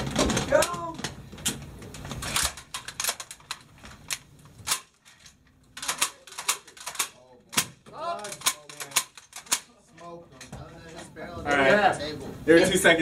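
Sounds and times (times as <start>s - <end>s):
machine gun parts clicking: 0.0s - 10.5s.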